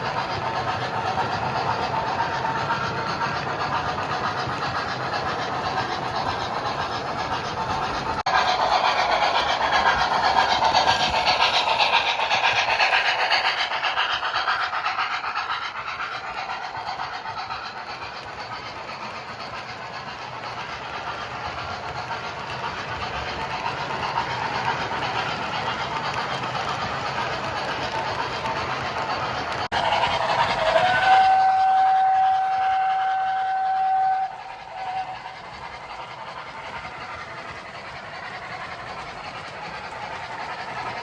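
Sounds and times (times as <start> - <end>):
fast steam chuffing from speaker: 0.0 - 41.0
model train wheels clicking: 0.0 - 41.0.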